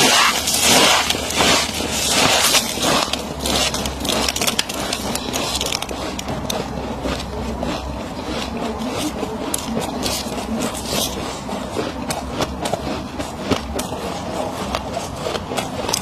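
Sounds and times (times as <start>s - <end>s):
chewing and crunching frost: 0.0s - 16.0s.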